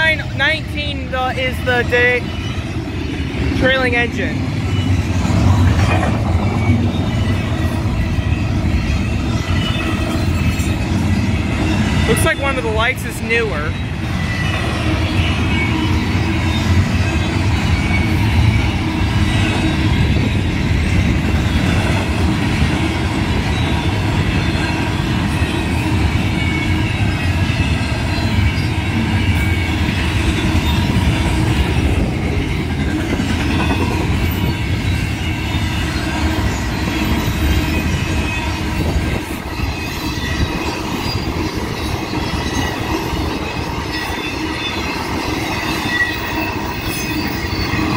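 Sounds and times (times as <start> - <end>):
freight train wheels rumbling: 0.0 - 47.9
faint high wheel squeal: 2.0 - 12.2, 13.4 - 21.7, 22.9 - 31.2, 31.8 - 47.9.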